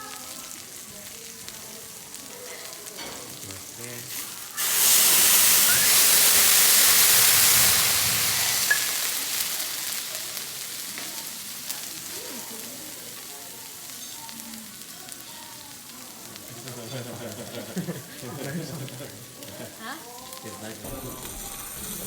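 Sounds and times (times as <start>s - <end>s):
food sizzling on a griddle: 0.0s - 22.0s.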